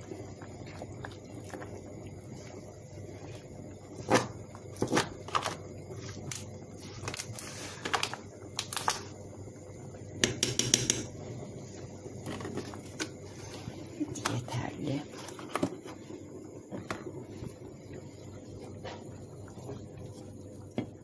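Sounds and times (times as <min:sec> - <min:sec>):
stew bubbling: 0:00.0 - 0:21.0.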